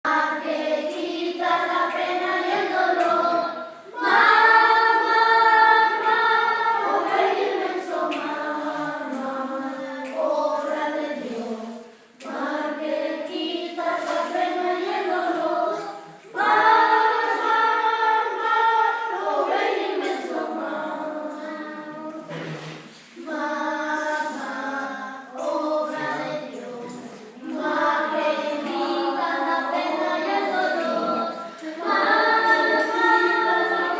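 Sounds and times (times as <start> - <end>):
choir singing: 0.1 - 33.9.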